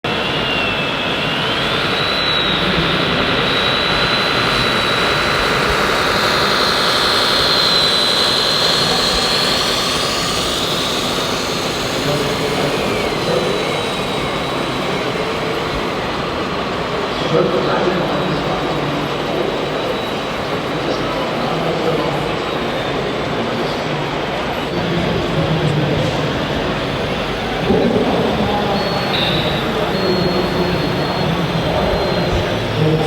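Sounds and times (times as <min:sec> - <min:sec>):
busy exhibition hall voices: 0:00.0 - 0:33.0
high electric motor whine: 0:00.1 - 0:33.0.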